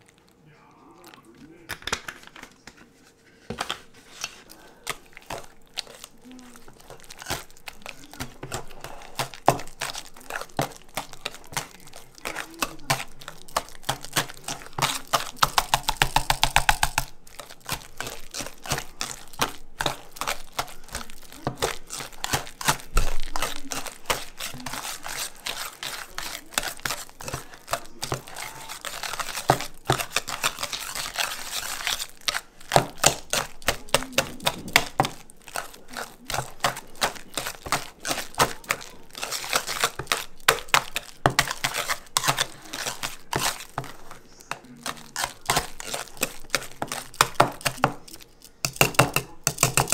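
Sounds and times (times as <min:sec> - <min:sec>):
squish of mashed potatoes: 0:00.0 - 0:49.9
whisk clicking against metal bowl: 0:06.8 - 0:48.0, 0:48.6 - 0:49.9.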